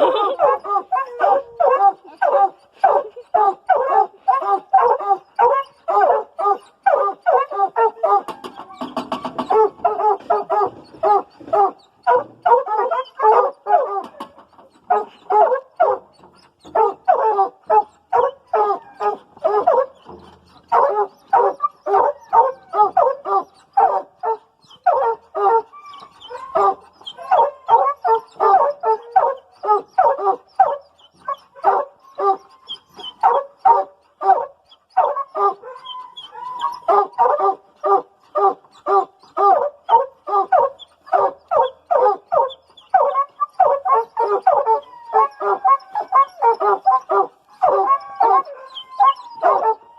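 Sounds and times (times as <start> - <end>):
hounds barking: 0.0 - 8.6, 9.3 - 14.3, 14.9 - 49.9.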